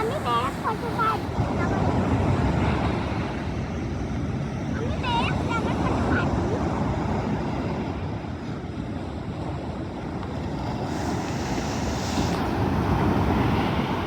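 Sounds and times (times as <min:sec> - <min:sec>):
waves breaking on shore: 0:00.0 - 0:14.0
wind rumbling on microphone: 0:00.0 - 0:14.0.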